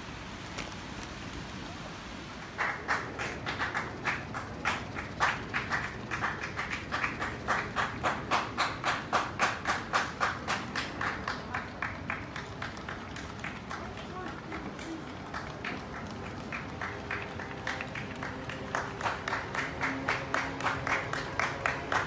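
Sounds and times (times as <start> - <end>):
person clapping hands: 2.6 - 22.0.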